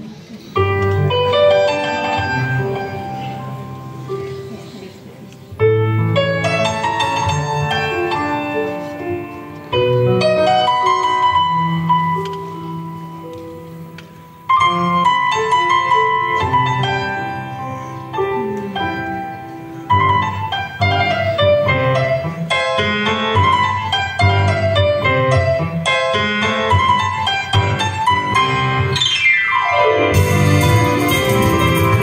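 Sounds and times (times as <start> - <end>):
piano playing flamenco: 0.6 - 32.0.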